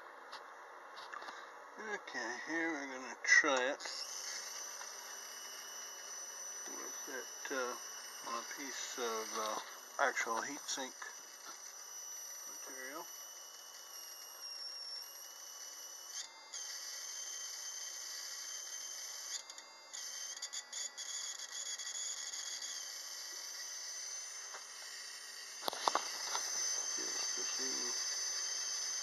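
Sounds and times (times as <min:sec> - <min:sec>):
high-pitched electrical whine: 0:00.0 - 0:29.0.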